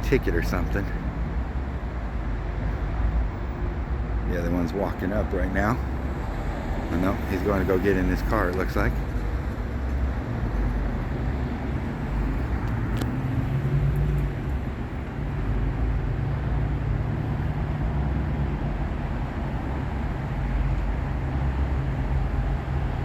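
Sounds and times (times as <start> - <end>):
freeway traffic rumble: 0.0 - 23.0.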